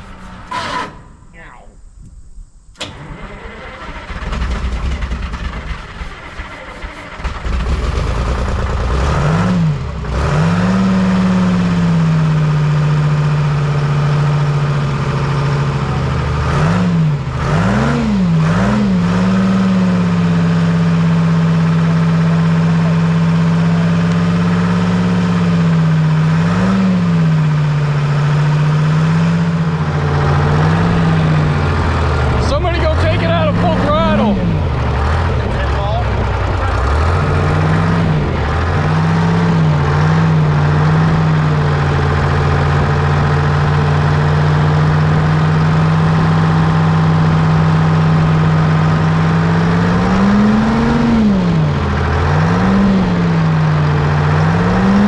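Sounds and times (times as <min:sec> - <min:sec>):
diesel engine starting and running: 0:00.0 - 0:55.0.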